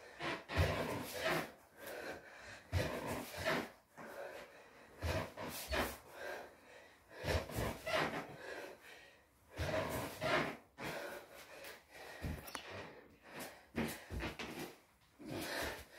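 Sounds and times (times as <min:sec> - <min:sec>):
boy breathing heavily: 0:00.0 - 0:15.9.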